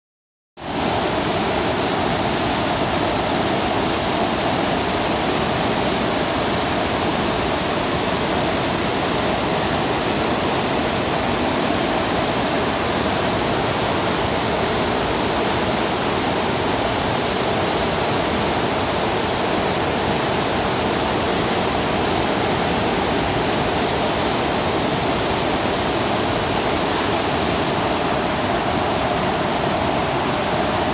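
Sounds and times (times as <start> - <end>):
waterfall rushing: 0.7 - 30.9.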